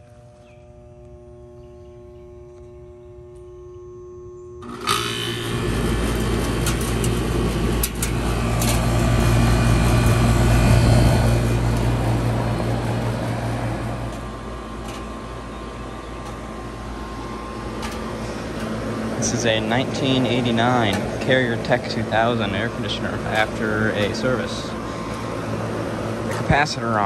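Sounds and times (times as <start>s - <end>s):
air conditioner humming: 0.0s - 27.0s.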